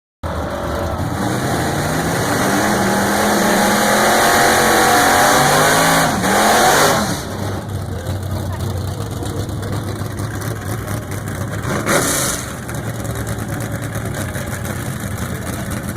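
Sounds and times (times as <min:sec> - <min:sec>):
drag racing car engine revving: 0:00.2 - 0:15.9.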